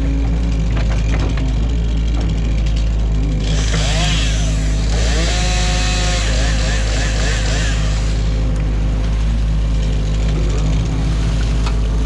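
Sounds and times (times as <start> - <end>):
diesel engine running under load: 0.0 - 12.0
hydraulic whines: 0.0 - 12.0.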